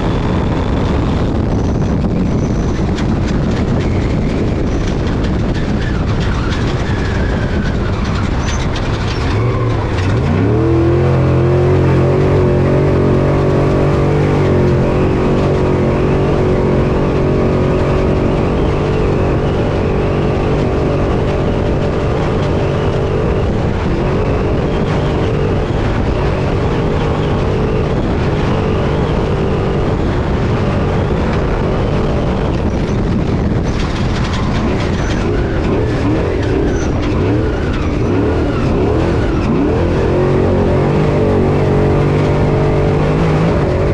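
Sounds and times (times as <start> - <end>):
truck engine revving: 0.0 - 43.9
wind tyre and chassis noise: 0.0 - 43.9.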